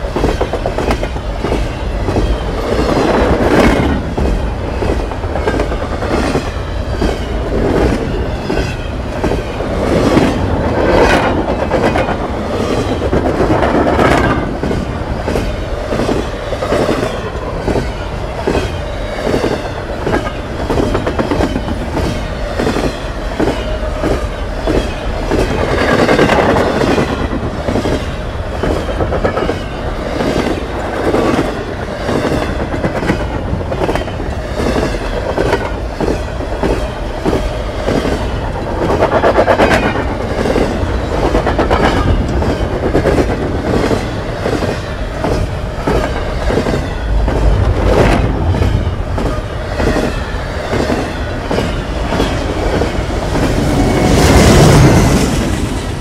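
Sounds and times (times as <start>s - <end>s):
train rumble: 0.0s - 56.0s
train wheels clicking over rail joints: 0.0s - 56.0s.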